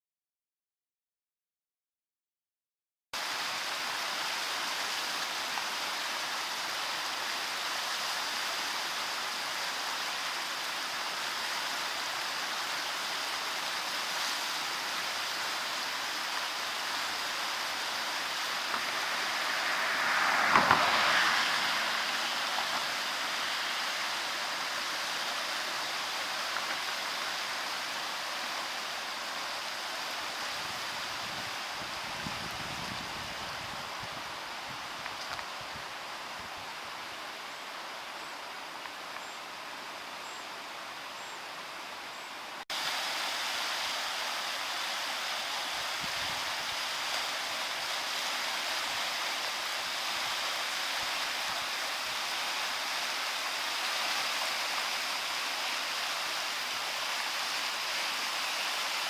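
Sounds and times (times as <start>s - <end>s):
river water rushing: 3.2s - 59.0s.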